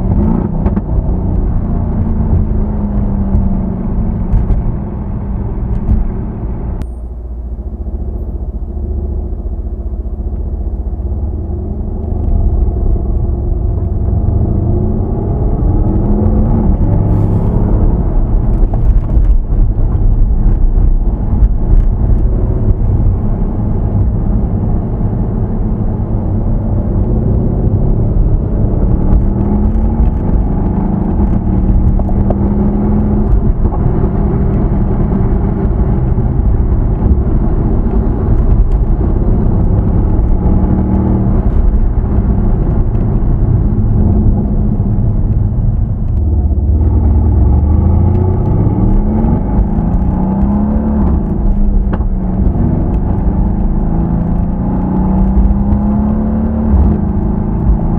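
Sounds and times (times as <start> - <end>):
car engine low rumble: 0.0 - 57.9.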